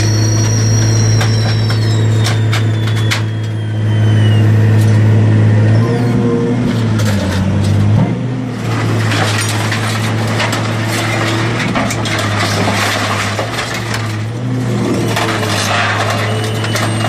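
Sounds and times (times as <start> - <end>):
scrap metal crackling and creaking: 0.0 - 17.0.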